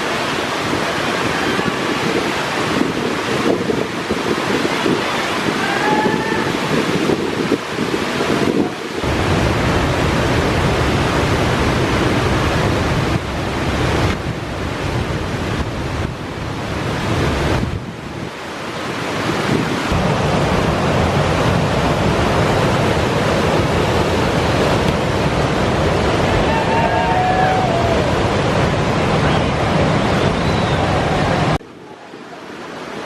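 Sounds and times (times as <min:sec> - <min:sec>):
wind buffeting microphone: 0:00.0 - 0:31.6
mountain torrent rushing through rapids: 0:00.0 - 0:33.0.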